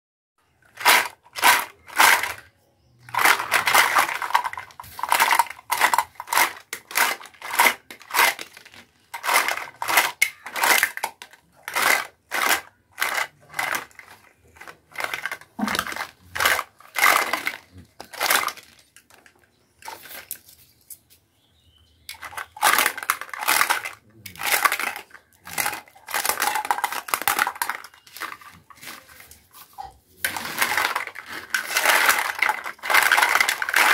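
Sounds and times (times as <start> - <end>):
plastic toy pieces clattering: 0.6 - 2.5, 3.1 - 21.0, 22.1 - 33.9.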